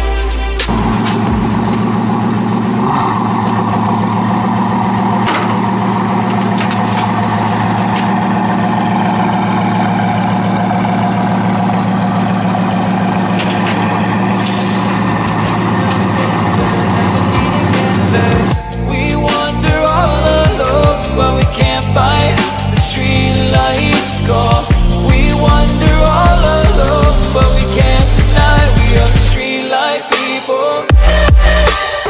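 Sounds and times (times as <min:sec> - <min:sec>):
car engine running steadily: 0:00.0 - 0:29.4.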